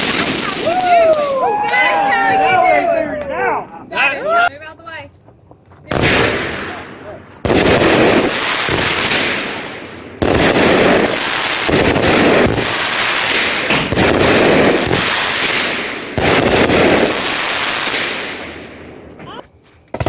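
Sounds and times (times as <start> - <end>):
fireworks bursting with crackle: 0.0 - 3.2, 5.8 - 20.0.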